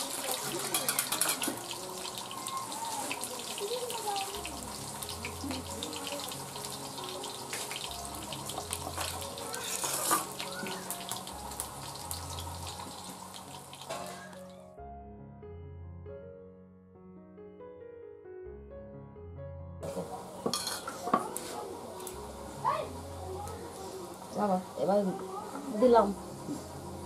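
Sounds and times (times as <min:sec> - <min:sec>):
onions sizzling in hot oil: 0:00.0 - 0:14.6, 0:19.8 - 0:27.0
quiet background music: 0:00.0 - 0:27.0.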